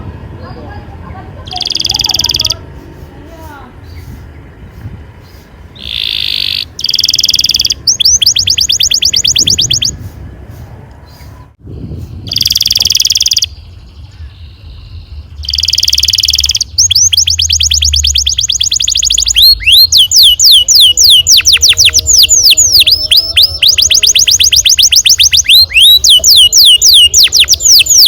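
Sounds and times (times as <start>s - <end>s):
canary singing: 0.3s - 4.6s, 5.2s - 10.1s, 12.3s - 28.0s.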